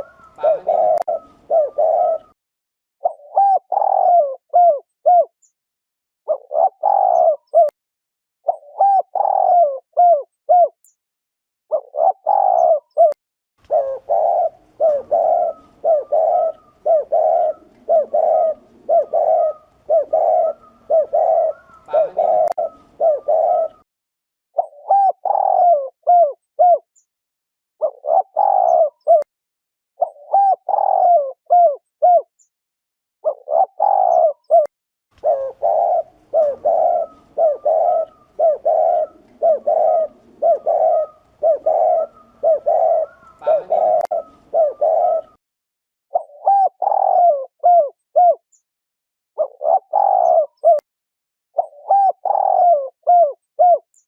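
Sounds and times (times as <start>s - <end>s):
doves cooing: 0.0s - 2.4s, 3.0s - 5.3s, 6.3s - 7.7s, 8.5s - 10.7s, 11.7s - 23.8s, 24.6s - 26.8s, 27.8s - 29.3s, 30.0s - 32.3s, 33.2s - 45.4s, 46.1s - 48.4s, 49.4s - 50.8s, 51.6s - 53.8s.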